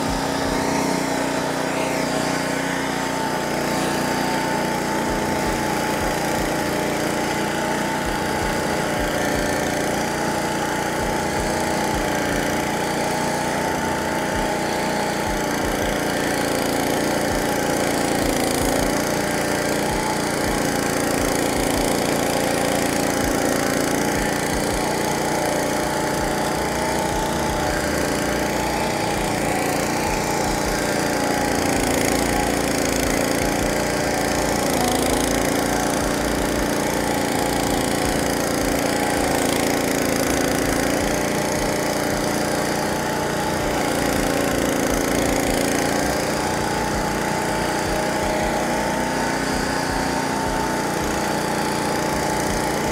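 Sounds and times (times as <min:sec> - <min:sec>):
flail mower engine hum: 0:00.0 - 0:52.9.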